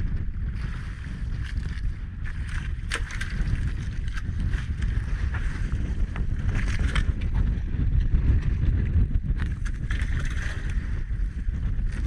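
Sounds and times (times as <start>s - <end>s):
low rumble of wind and sea: 0.0s - 12.0s.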